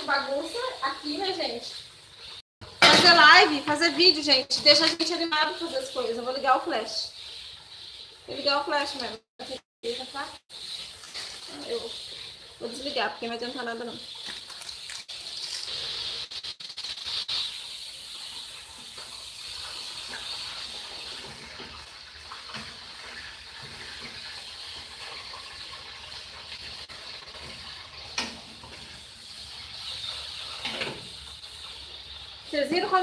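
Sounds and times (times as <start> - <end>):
sausages sizzling in a pot: 0.0 - 33.0.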